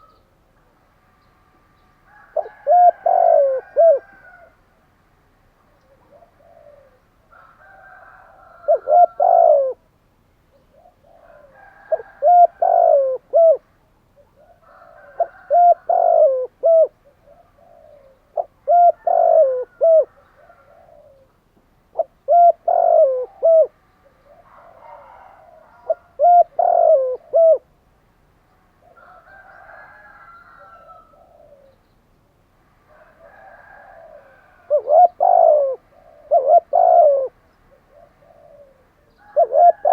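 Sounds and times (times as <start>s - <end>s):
dove cooing: 0.0s - 0.2s, 2.1s - 4.6s, 5.6s - 9.9s, 10.5s - 27.7s, 28.8s - 31.8s, 32.9s - 39.9s.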